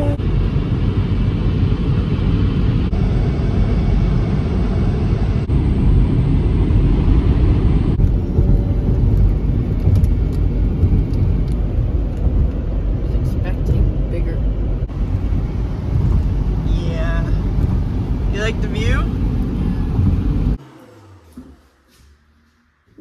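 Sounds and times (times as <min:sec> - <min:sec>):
road and engine rumble inside car: 0:00.0 - 0:23.0.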